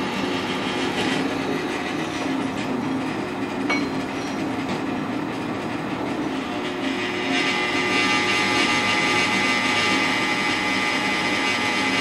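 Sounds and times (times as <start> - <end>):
drill press drilling steel: 0.0 - 12.0
motor hum: 0.0 - 12.0.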